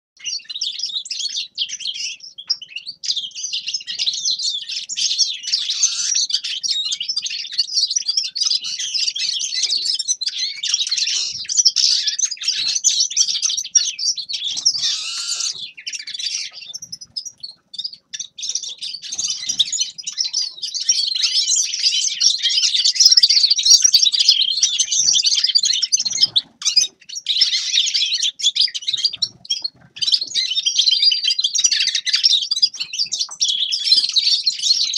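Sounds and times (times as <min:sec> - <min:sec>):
bird twittering song: 0:00.2 - 0:34.9.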